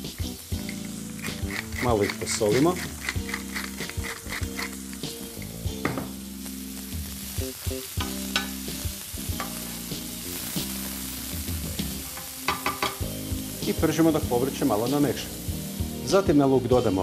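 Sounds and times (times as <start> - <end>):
onion sizzling in frying pan: 0.0 - 17.0.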